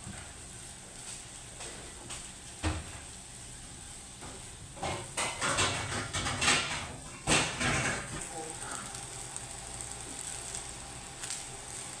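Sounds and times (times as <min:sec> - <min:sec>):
eggs sizzling: 0:00.0 - 0:12.0.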